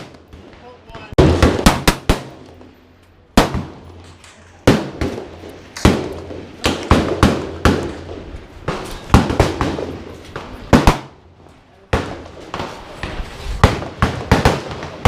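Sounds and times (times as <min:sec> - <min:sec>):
gunshots: 0:00.0 - 0:02.7, 0:03.3 - 0:04.0, 0:04.6 - 0:11.2, 0:11.9 - 0:15.0.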